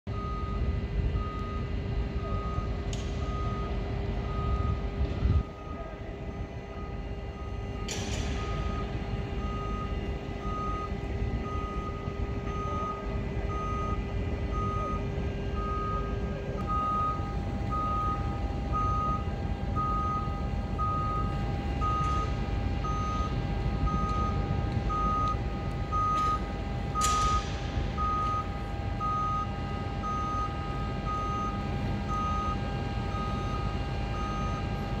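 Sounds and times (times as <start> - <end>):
high-tone warning beeper: 0.1 - 35.0
steady hum: 0.1 - 35.0.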